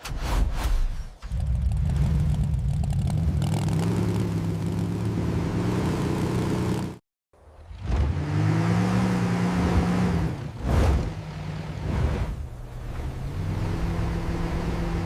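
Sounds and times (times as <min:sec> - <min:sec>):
engine droning: 0:01.2 - 0:15.0.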